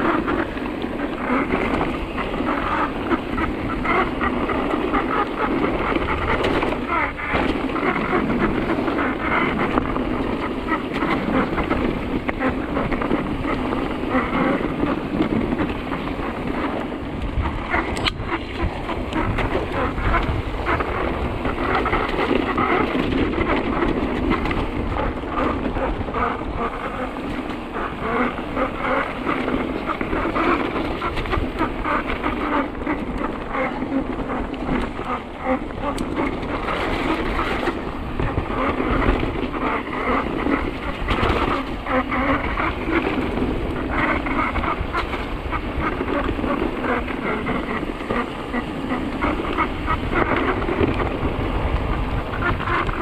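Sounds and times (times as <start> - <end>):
bike tyres rushing and rattling: 0.0 - 53.0.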